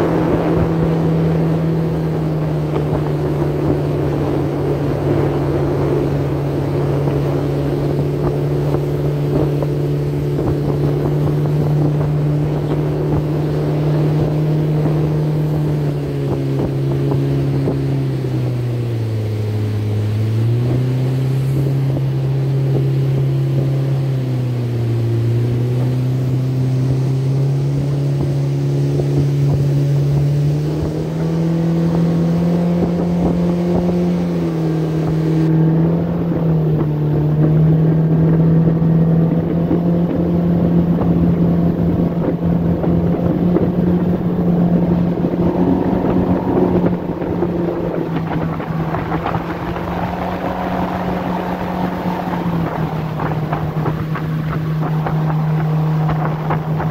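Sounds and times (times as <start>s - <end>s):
jet boat engine drone: 0.0s - 56.9s.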